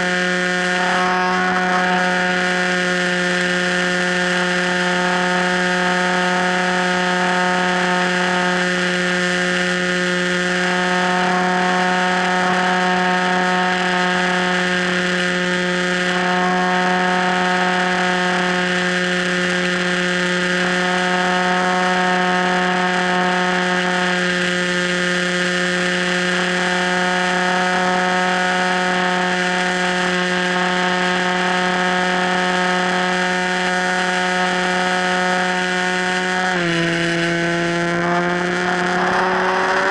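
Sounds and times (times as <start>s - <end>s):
model plane motor whine: 0.0s - 39.9s.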